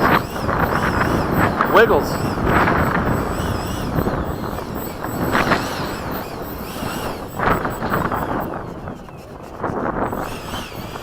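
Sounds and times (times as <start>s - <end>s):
electric ducted fan whining: 0.0s - 11.0s
steady rushing noise: 0.0s - 11.0s.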